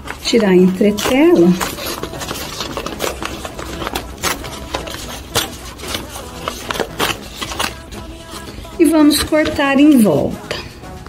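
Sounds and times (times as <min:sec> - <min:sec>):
stabilizer paper ripping: 0:00.0 - 0:10.5
fabric rustling: 0:00.0 - 0:11.0.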